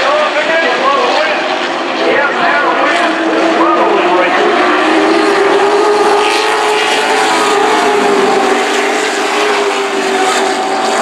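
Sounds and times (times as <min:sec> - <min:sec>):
racing trucks passing: 0:00.0 - 0:11.0.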